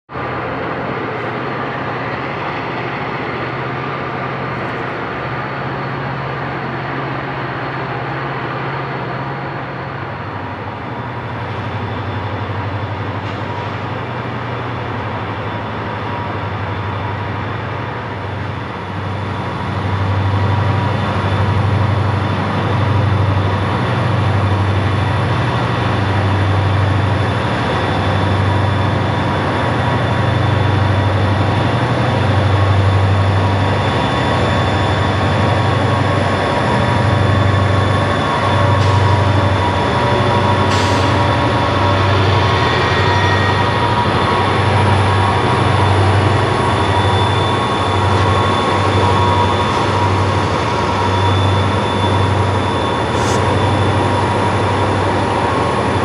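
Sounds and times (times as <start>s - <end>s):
diesel locomotives working hard: 0.1s - 56.0s.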